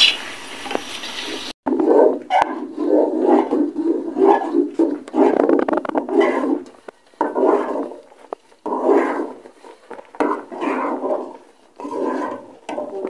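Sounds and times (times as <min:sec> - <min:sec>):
spoon scraping sticky mixture: 0:01.7 - 0:13.0.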